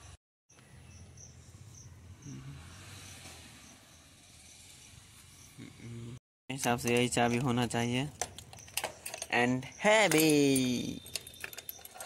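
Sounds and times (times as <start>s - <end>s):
insect chirping: 0.6s - 5.9s, 7.1s - 12.0s.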